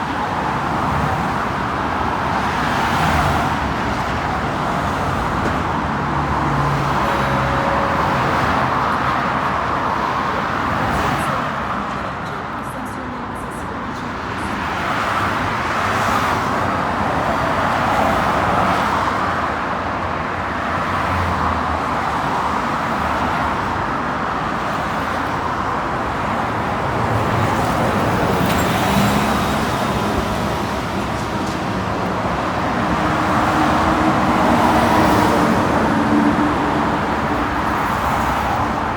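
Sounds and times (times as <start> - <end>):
cars passing on street: 0.0 - 38.9.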